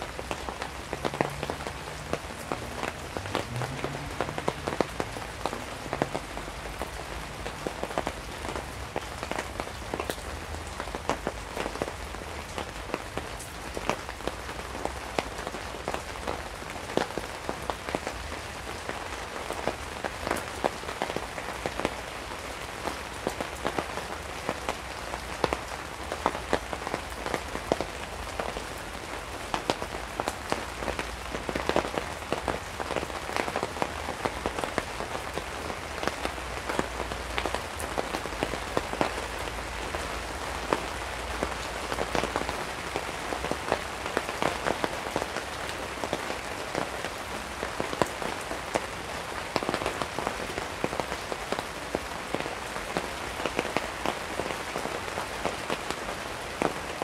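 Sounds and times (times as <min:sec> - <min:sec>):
heavy rain on a tarp: 0:00.0 - 0:57.0.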